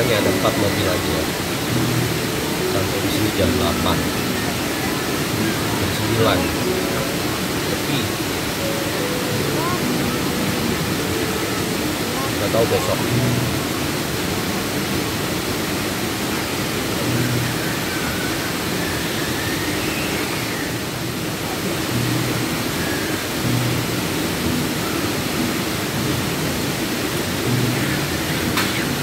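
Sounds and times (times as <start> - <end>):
river flowing: 0.0 - 29.0.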